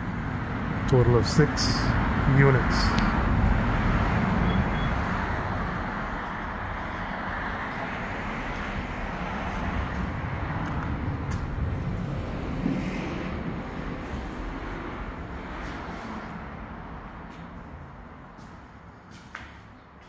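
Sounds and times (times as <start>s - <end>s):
steady rumbling noise: 0.0s - 19.0s.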